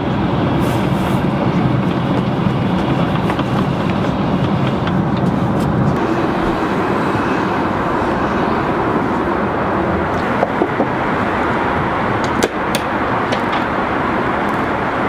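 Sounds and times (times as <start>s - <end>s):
airliner cabin noise: 0.0s - 15.0s.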